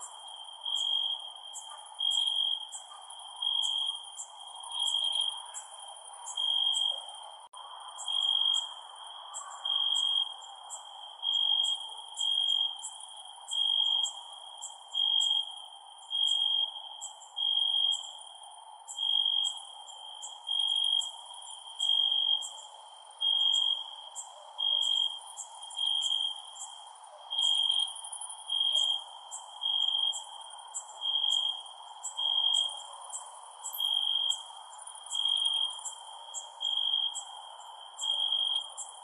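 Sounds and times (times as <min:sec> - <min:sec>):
cricket chirping: 0:00.0 - 0:39.0.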